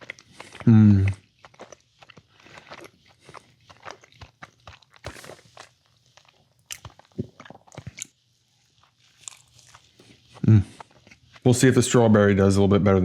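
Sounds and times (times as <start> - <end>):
person chewing with mouth smacks: 0.0 - 11.8.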